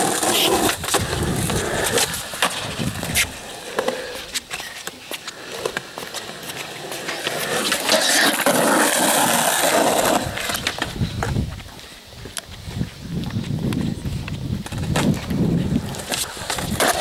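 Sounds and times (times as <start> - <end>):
skateboard clacks: 0.0 - 11.7, 13.7 - 17.0
skateboard wheels rolling on concrete: 0.0 - 17.0.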